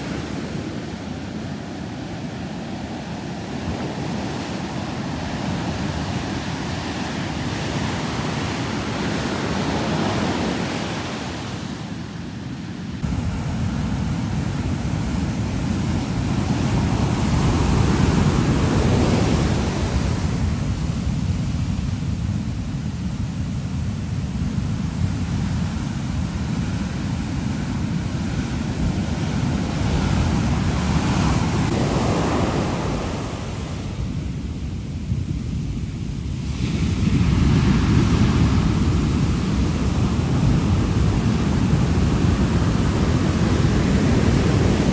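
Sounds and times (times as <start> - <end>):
ocean surf breaking: 0.0 - 44.9
wind rumble on microphone: 0.0 - 44.9.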